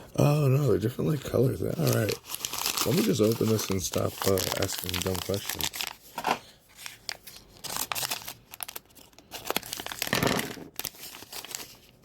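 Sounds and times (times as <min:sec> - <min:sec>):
plastic packaging crinkling: 0:01.0 - 0:12.0.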